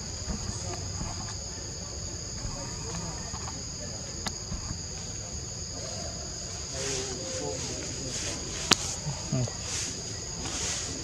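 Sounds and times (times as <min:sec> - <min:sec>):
shrill insect chorus: 0:00.0 - 0:11.0.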